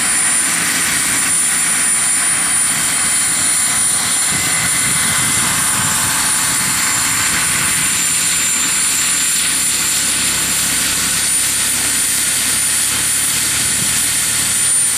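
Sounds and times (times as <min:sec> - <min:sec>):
helicopter rotor chop: 0:00.0 - 0:14.9
turbine whine: 0:00.0 - 0:14.9.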